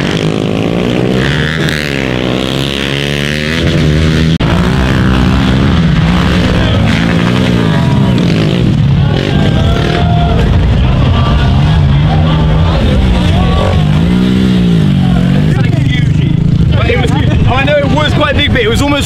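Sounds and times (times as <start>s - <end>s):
pit bike engines revving: 0.0s - 19.0s.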